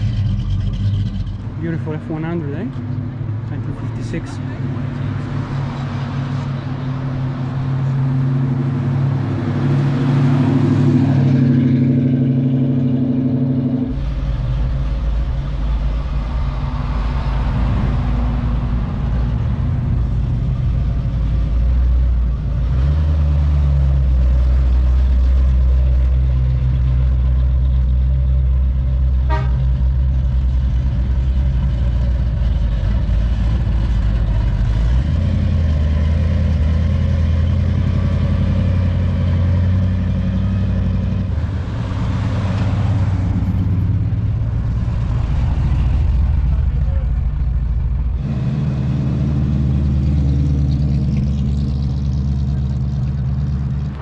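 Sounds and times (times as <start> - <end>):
car engines idling: 0.0 - 54.0
deep loud engine: 0.0 - 54.0.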